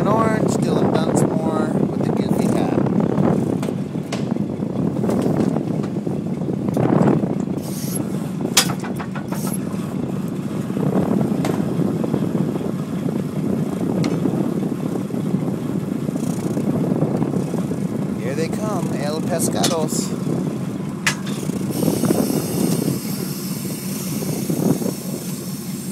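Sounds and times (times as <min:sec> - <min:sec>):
boat engine running: 0:00.0 - 0:25.9.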